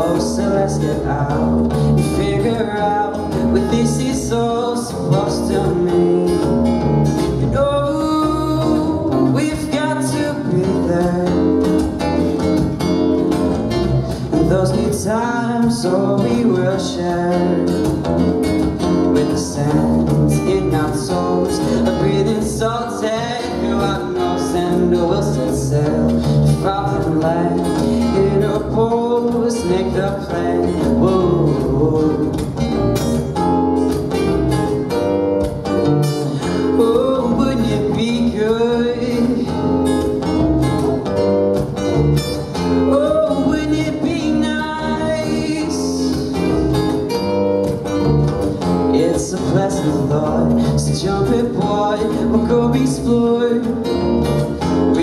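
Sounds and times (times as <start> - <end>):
man singing: 0.0 - 12.9, 13.7 - 32.9, 36.0 - 41.2, 42.4 - 47.9, 48.5 - 55.0
bass guitar: 0.0 - 55.0
strummed acoustic guitar: 0.0 - 55.0.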